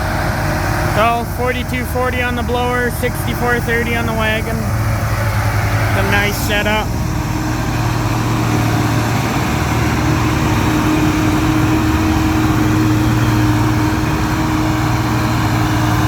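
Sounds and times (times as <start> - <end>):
tractor engine and blower drone: 0.0 - 16.0.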